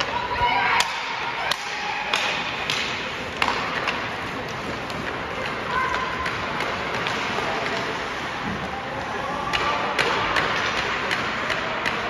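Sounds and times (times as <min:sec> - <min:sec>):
arena background noise: 0:00.0 - 0:12.0
hockey sticks clacking: 0:00.0 - 0:12.0.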